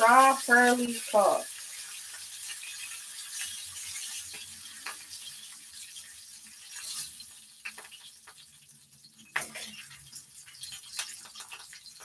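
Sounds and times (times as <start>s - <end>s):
fish sizzling in a grill pan: 0.0s - 12.0s.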